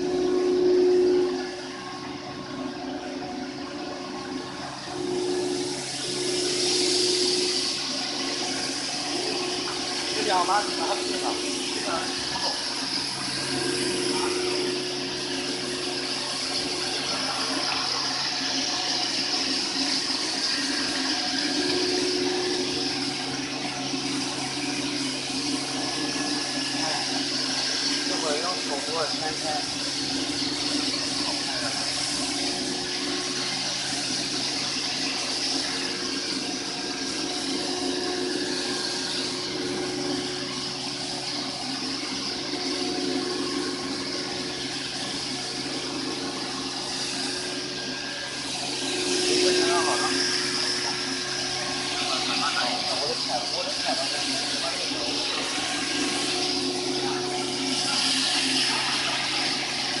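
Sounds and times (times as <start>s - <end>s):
coolant water streaming: 0.0s - 60.0s
machine motor hum: 0.0s - 60.0s.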